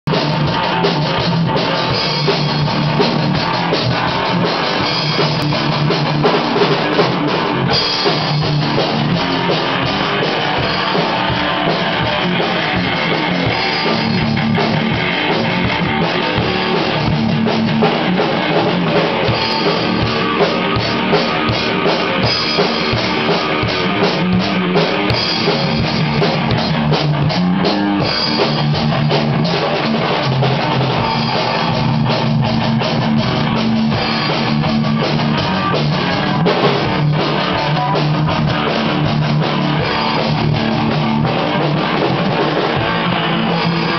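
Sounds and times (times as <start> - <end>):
electric guitar: 0.0 - 43.9
rock drums and cymbals: 0.0 - 43.9.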